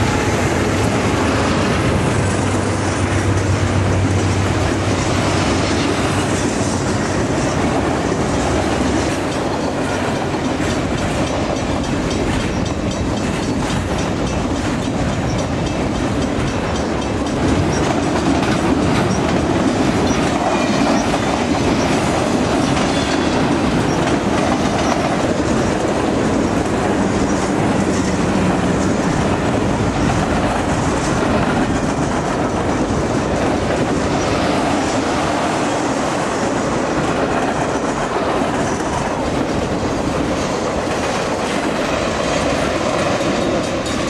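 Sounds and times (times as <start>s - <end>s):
train rumble: 0.0s - 44.0s
train wheels clicking over rail joints: 0.0s - 44.0s.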